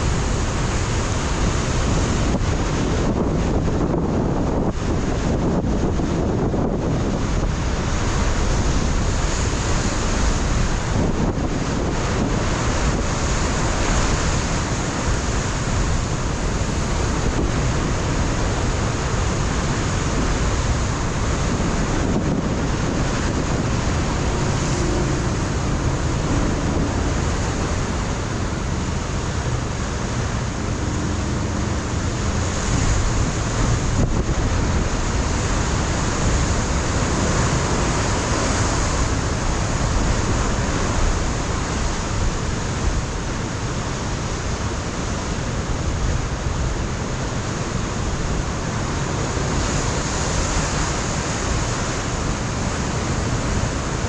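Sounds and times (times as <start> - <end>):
surf washing against rocks: 0.0 - 54.0
wind buffeting microphone: 0.0 - 54.0.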